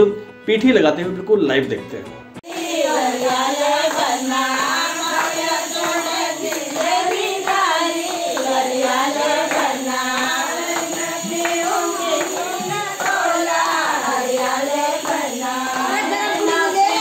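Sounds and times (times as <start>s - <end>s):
hand claps: 2.4s - 16.8s
women singing folk song: 2.4s - 17.0s.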